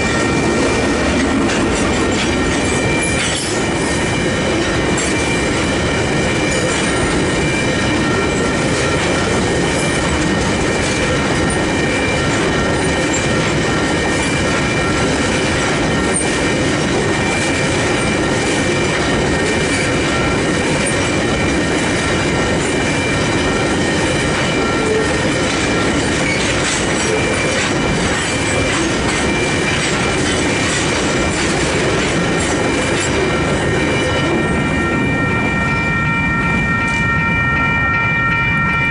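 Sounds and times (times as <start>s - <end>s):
level crossing bells ringing: 0.0s - 38.9s
train wheels rumbling and clattering: 0.0s - 38.9s.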